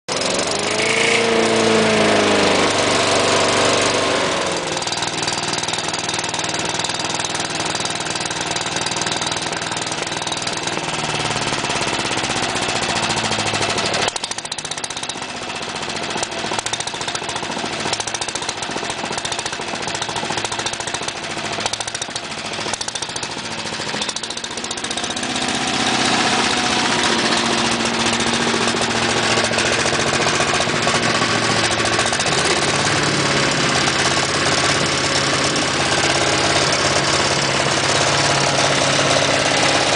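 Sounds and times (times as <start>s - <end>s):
rough rattle: 0.1s - 39.9s
wood chipper engine drone: 0.1s - 39.9s.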